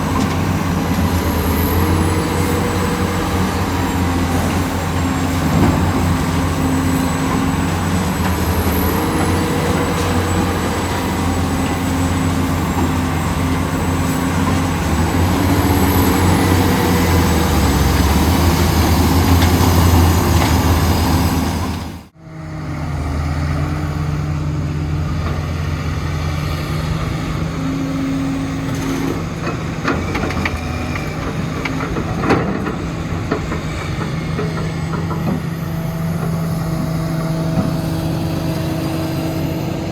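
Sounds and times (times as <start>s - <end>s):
construction work noise: 0.0s - 39.9s
diesel machinery engine drone: 0.0s - 39.9s.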